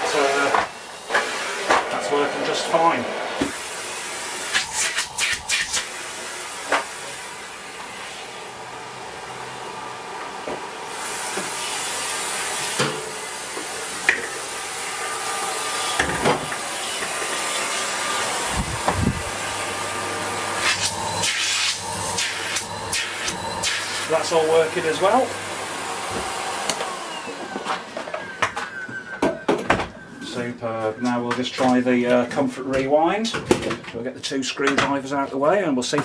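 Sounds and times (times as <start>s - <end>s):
vacuum cleaner running: 0.0s - 30.6s.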